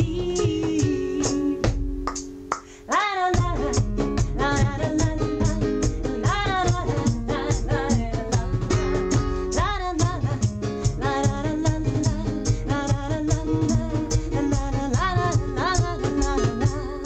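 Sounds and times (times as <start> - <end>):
woman singing: 0.0 - 2.0, 2.8 - 17.0
hand drums beating: 0.0 - 2.7, 3.3 - 17.0
acoustic guitar strumming: 0.0 - 17.0.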